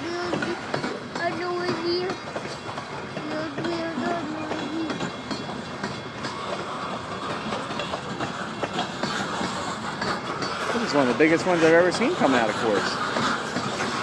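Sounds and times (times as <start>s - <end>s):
train cars rumbling: 0.0s - 14.0s
wheels clacking over rail joints: 0.0s - 14.0s.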